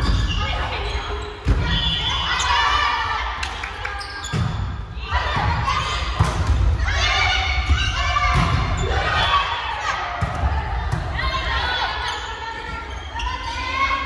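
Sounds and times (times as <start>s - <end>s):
players shouting in a gym: 0.0s - 14.0s.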